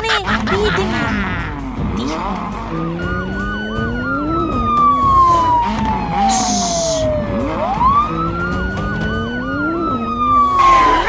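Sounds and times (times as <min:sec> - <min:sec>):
siren wailing: 0:01.9 - 0:11.0.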